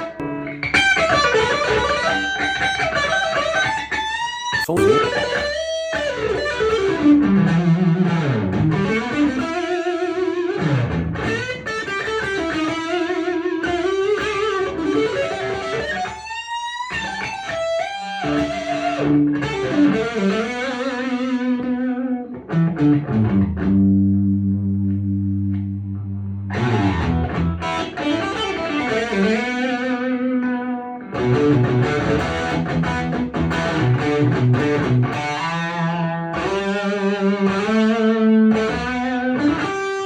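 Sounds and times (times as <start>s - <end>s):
electric guitar lead melody: 0.0s - 40.0s.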